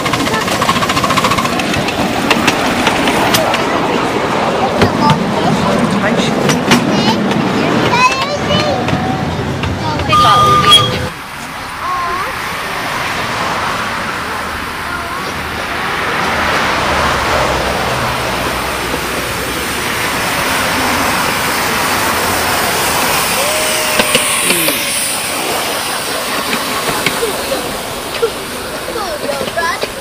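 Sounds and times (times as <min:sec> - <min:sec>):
miniature train rolling on track: 0:00.0 - 0:30.0.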